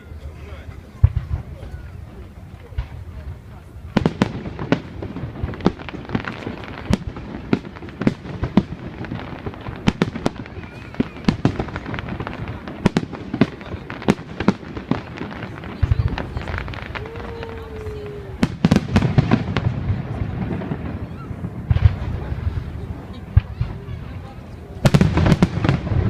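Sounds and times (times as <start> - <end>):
fireworks bangs and cracks: 0.4 - 26.0.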